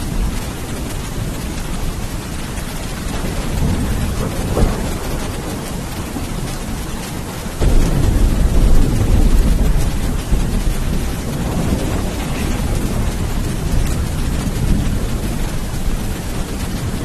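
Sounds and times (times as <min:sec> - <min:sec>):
heavy rain: 0:00.0 - 0:17.0
thunder rumbling: 0:00.0 - 0:17.0.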